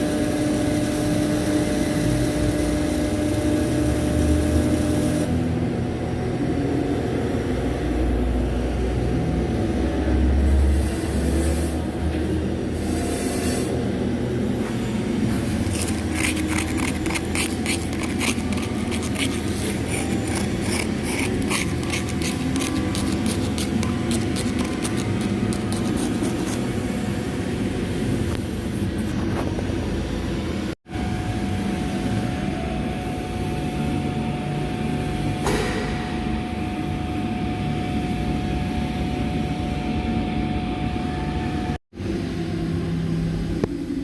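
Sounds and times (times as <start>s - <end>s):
machine hum with low rumble: 0.0s - 44.0s.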